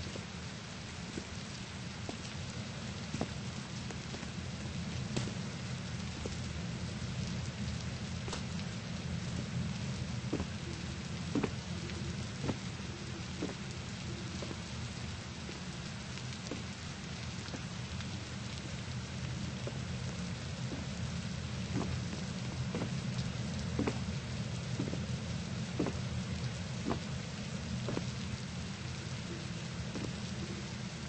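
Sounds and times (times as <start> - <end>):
low rumbling noise: 0.0 - 31.0.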